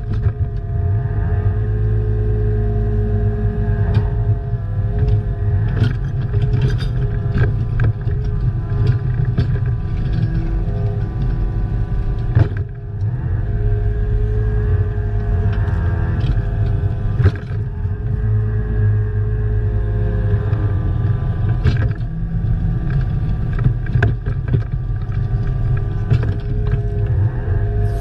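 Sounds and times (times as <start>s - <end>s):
excavator engine under load: 0.0s - 28.0s.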